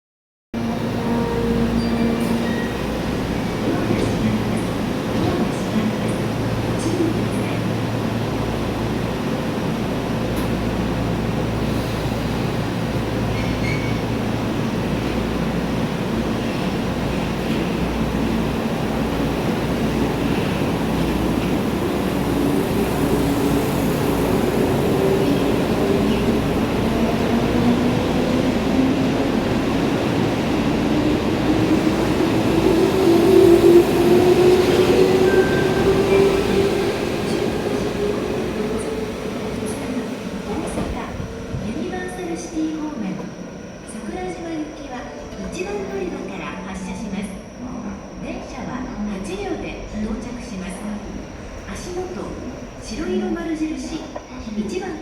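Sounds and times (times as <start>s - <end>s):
electric train rumble: 0.6s - 55.0s.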